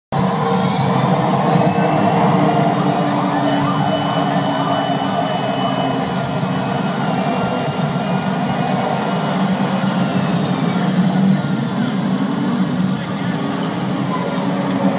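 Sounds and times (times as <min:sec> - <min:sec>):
machines rumbling and whining: 0:00.1 - 0:14.9
flamethrower roaring: 0:00.2 - 0:14.9.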